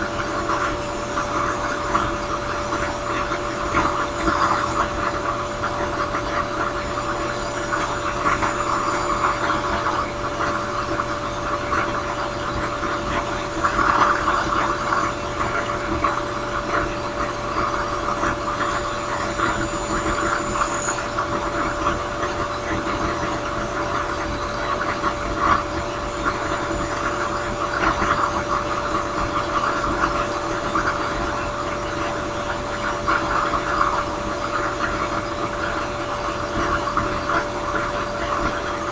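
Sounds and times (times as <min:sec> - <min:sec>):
drill press motor hum: 0:00.0 - 0:31.4.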